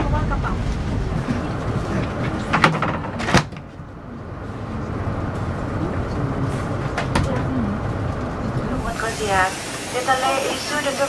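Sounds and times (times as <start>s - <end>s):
murmured passenger voices: 0.0s - 11.0s.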